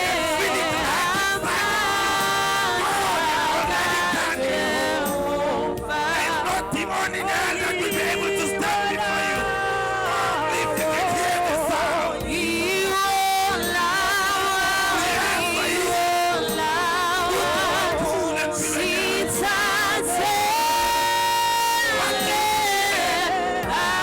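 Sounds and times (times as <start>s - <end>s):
gospel singing with accompaniment: 0.0s - 24.0s.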